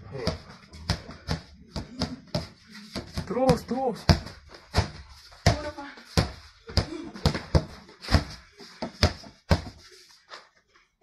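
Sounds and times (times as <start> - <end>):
basketball dribbled on concrete: 0.1 - 9.8.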